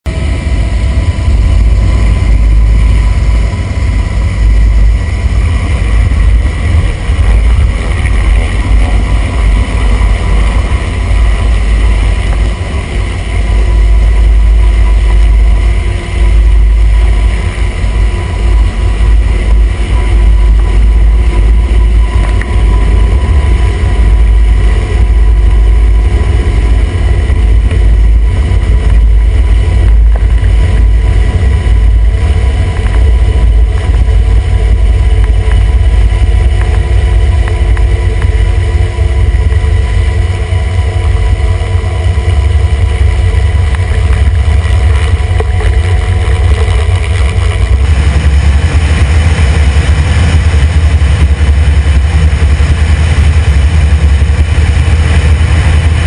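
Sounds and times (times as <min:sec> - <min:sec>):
helicopter rotor rumble: 0:00.0 - 0:56.0
turbine whine: 0:00.0 - 0:56.0.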